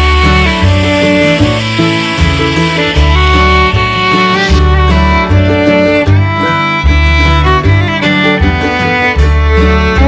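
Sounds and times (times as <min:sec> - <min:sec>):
bass line: 0:00.0 - 0:10.0
fiddle tune: 0:00.0 - 0:10.0.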